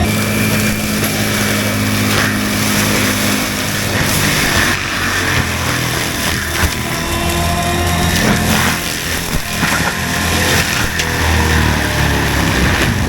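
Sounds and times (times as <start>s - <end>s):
engine at full throttle: 0.0s - 13.0s
mulcher grinding brush: 0.0s - 13.0s.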